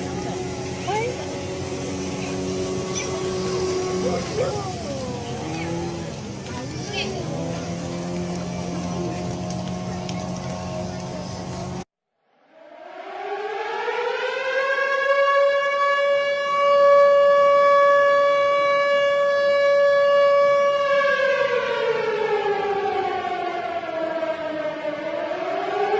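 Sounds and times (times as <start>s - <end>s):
warning siren: 0.0s - 25.9s.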